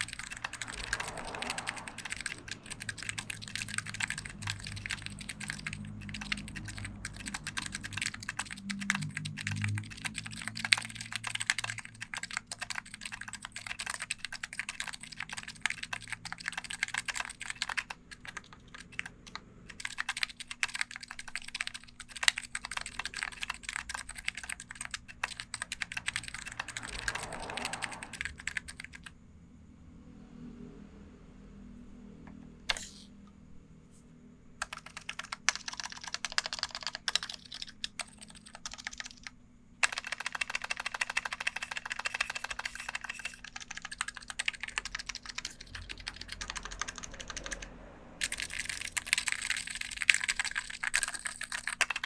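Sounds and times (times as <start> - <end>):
keyboard typing: 0.0 - 29.1, 34.6 - 52.0.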